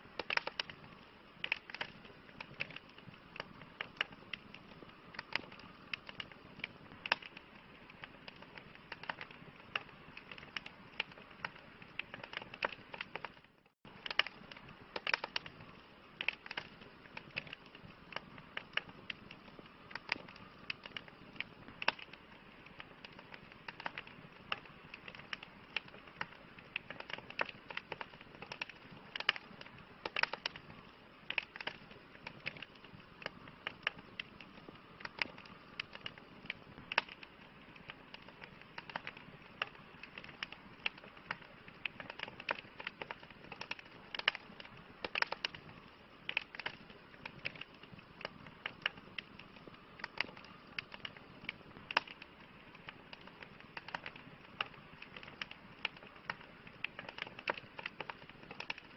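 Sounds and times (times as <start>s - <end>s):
campfire wood crackling and popping: 0.0s - 58.9s
soft fire hiss: 0.0s - 58.9s.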